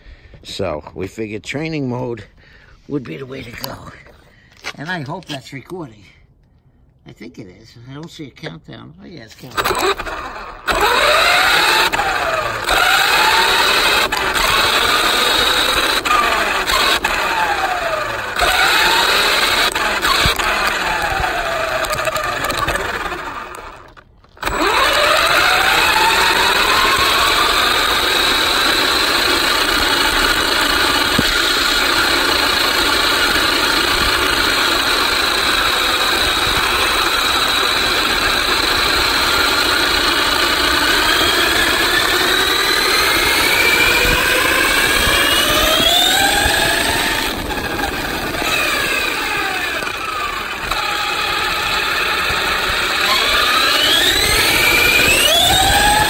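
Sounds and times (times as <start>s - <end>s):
rc car motor whining: 9.4s - 56.0s.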